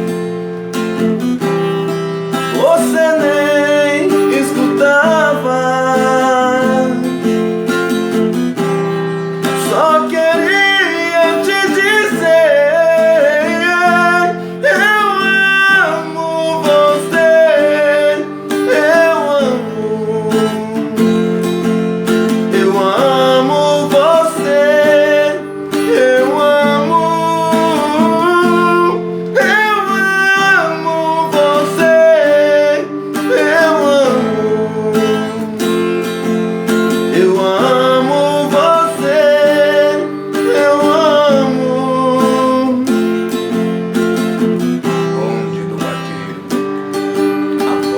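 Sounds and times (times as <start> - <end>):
acoustic guitar strumming: 0.0 - 47.9
person singing: 0.0 - 47.9.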